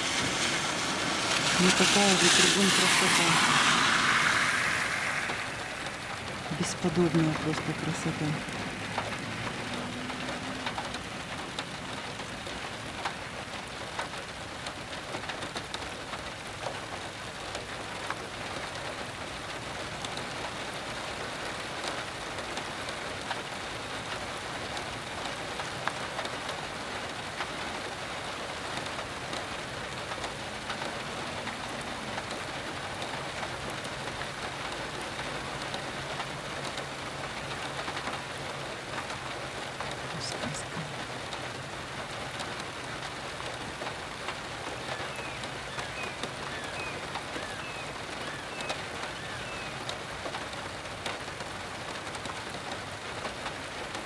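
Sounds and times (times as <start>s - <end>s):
heavy rain on water and trees: 0.0s - 54.0s.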